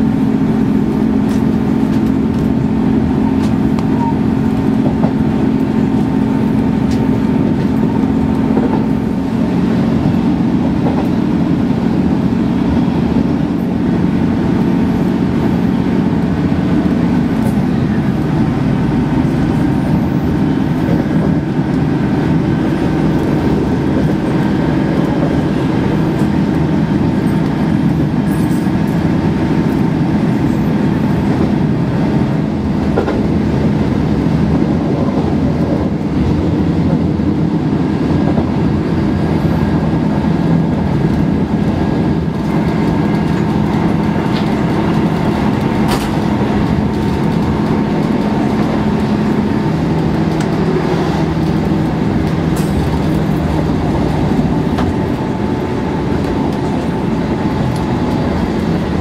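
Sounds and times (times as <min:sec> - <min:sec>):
humming drone: 0:00.0 - 0:59.0
train wheels rumbling on track: 0:00.0 - 0:59.0.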